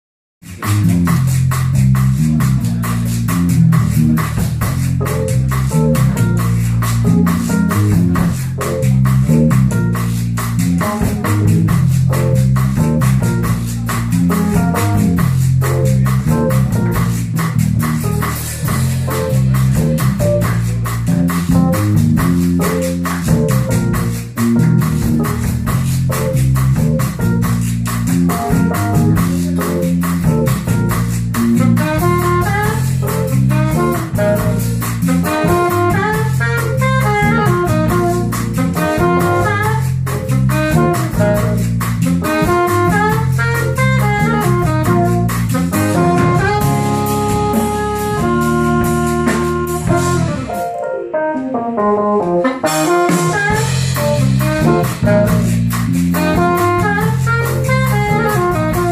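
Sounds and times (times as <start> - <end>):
shaker percussion: 0.4 - 50.7, 52.8 - 58.9
bass line: 0.4 - 58.9
drum kit beat: 0.4 - 58.9
up-tempo band music: 0.4 - 58.9.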